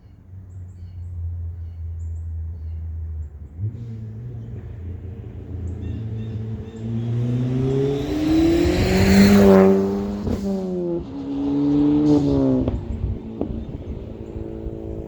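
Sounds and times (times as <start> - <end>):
car engine accelerating hard: 0.7 - 15.0.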